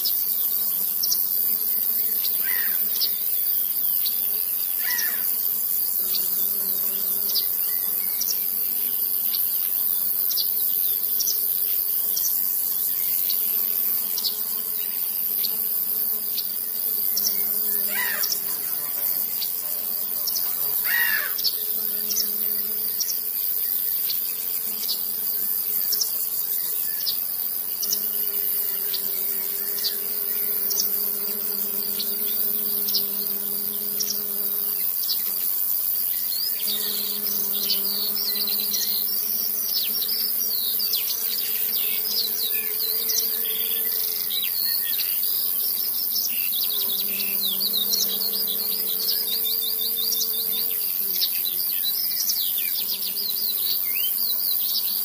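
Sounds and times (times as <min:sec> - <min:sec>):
steady high hiss: 0:00.0 - 0:55.0
small electric motor buzzing: 0:04.0 - 0:51.8.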